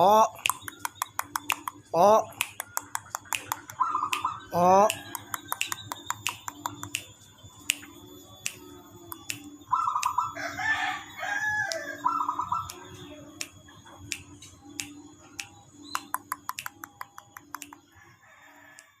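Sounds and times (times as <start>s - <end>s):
birds calling: 0.0s - 7.7s, 9.1s - 13.2s, 14.0s - 18.0s
small sharp clicks: 0.4s - 10.2s, 11.7s - 17.9s.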